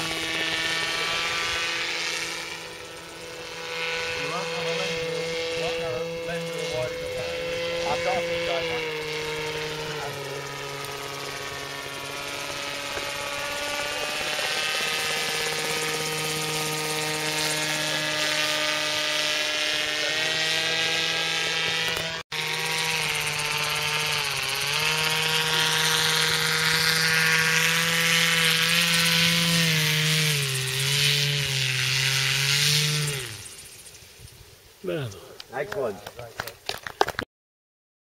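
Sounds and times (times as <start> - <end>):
model aircraft engine drone: 0.0 - 36.5.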